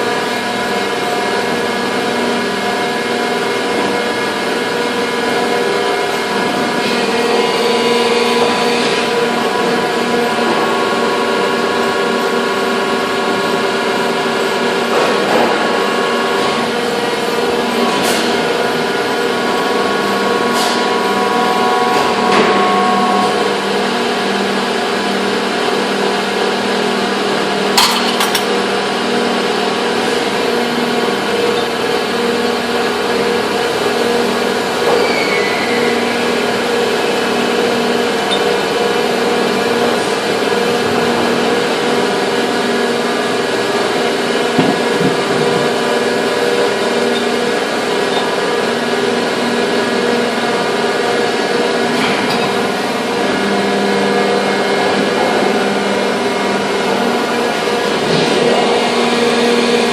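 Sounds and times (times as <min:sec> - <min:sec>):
factory machinery droning: 0:00.0 - 0:59.9.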